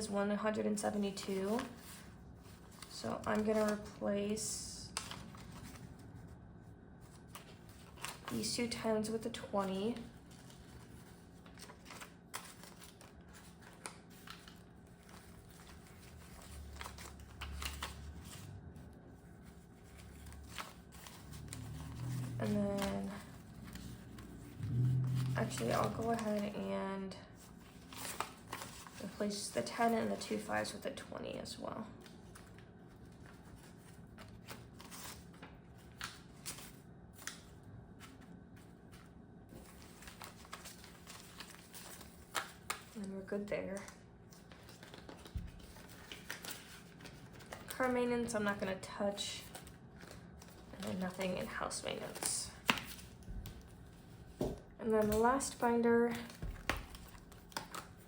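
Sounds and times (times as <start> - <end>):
paper banknotes rustling: 0.9 - 6.2, 7.0 - 26.7, 32.0 - 48.0, 49.4 - 58.0.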